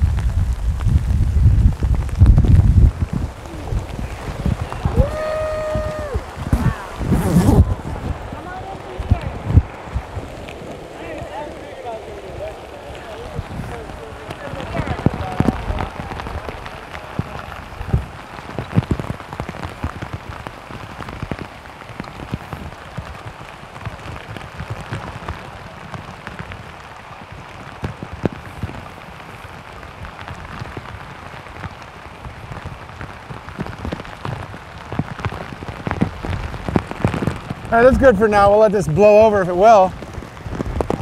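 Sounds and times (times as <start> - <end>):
heavy rain on pond: 0.0 - 41.0.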